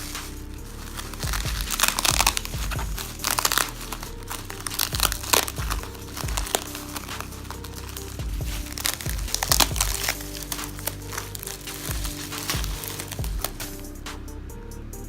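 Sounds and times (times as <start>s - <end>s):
packaging crinkling: 0.0s - 13.8s
background music with beat: 0.0s - 15.0s.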